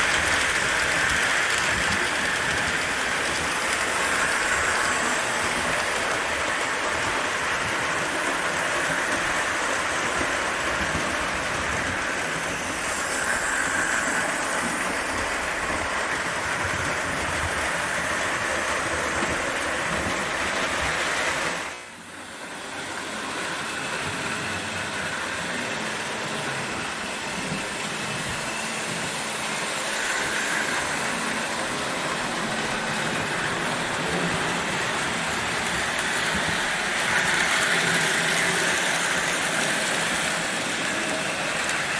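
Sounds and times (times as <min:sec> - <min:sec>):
toy train rattling on track: 0:00.0 - 0:41.9.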